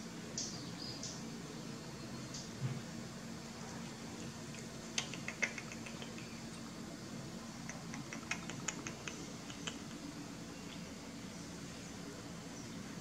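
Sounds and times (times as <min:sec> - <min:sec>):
low room noise: 0:00.0 - 0:13.0.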